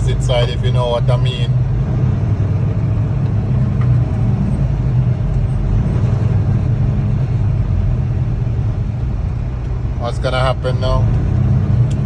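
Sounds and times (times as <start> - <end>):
vehicle driving on highway: 0.0 - 12.0.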